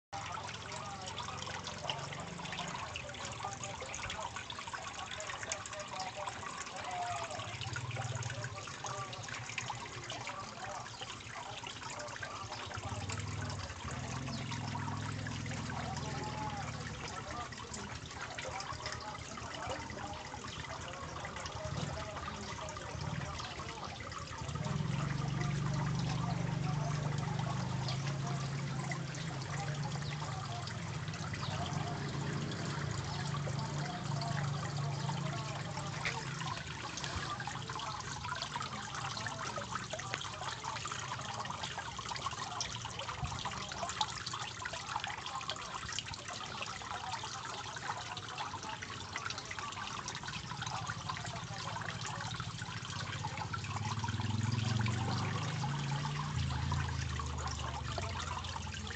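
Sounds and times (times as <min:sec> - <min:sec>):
water trickling and splashing: 0:00.0 - 0:58.9.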